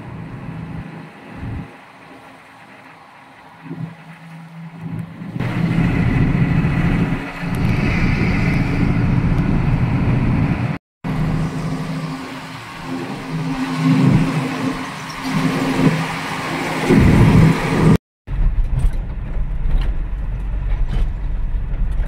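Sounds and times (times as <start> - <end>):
broad rushing noise: 0.0 - 18.0
vehicle engine running: 0.0 - 22.0.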